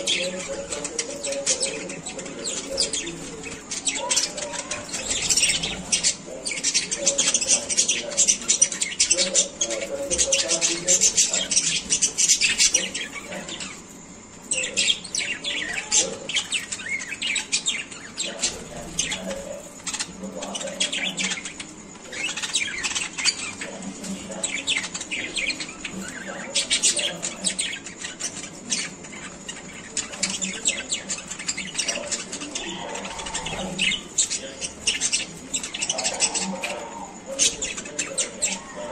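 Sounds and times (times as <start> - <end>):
budgerigars chirping: 0.0 - 38.9.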